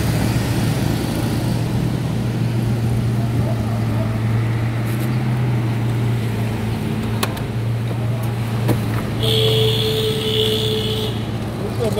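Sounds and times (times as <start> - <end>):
vehicle engine humming: 0.0 - 11.9.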